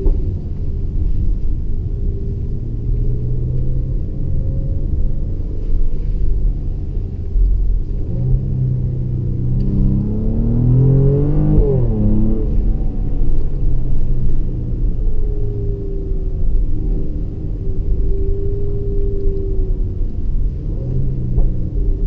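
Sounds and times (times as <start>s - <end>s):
car engine heard from inside cabin: 0.0s - 22.0s.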